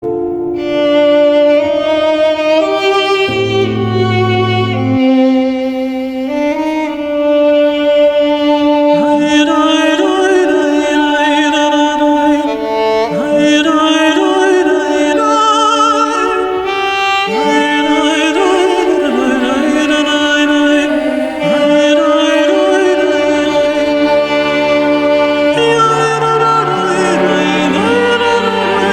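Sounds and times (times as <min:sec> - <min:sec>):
slow melody of held notes: 0:00.0 - 0:28.9.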